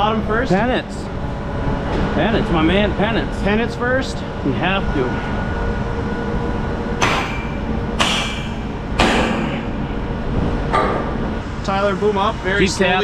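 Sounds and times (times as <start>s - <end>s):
steady engine hum: 0.0s - 13.0s.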